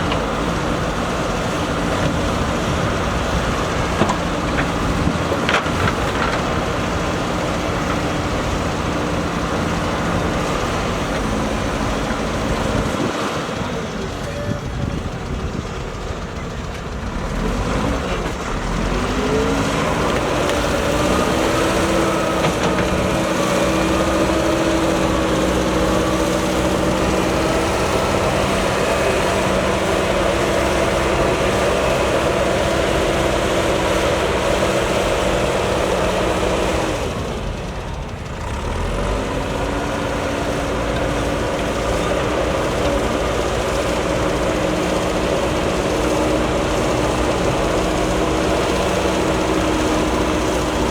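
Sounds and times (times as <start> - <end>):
diesel engine under throttle: 0.0 - 50.9.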